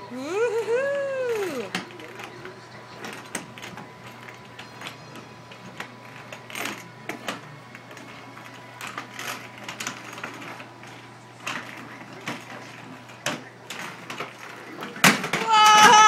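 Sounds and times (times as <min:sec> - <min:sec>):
plastic roller skates on hardwood floor: 0:01.3 - 0:16.0.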